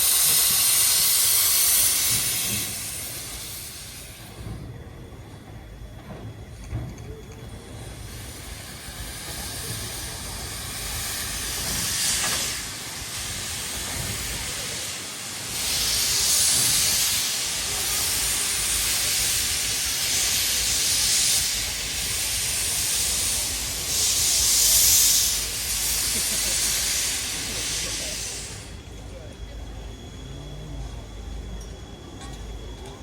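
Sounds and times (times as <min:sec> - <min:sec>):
steam locomotive hissing: 0:00.0 - 0:33.0.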